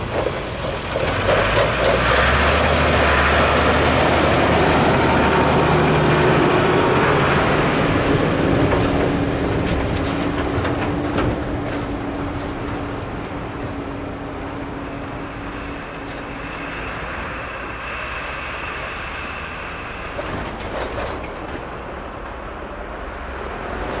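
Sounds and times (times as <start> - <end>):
tractor engine driving past: 0.0 - 24.0
trailer clattering: 0.0 - 24.0.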